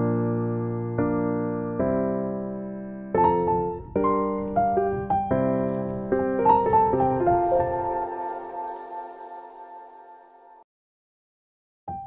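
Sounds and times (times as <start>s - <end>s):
piano music with held chords: 0.0s - 10.6s.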